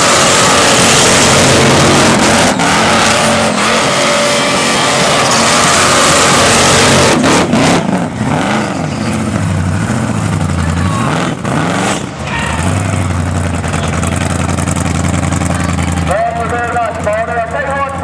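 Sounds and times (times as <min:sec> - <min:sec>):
tyres screeching: 0:00.0 - 0:15.5
car engine revving: 0:00.0 - 0:18.0.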